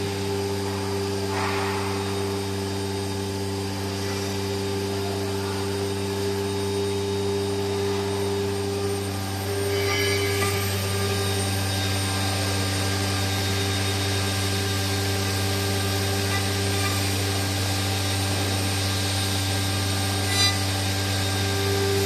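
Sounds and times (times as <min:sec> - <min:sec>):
router machining wood: 0:00.0 - 0:22.0.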